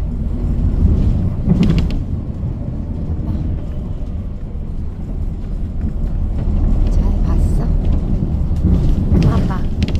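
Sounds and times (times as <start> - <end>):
bus engine and road rumble: 0.0 - 9.9.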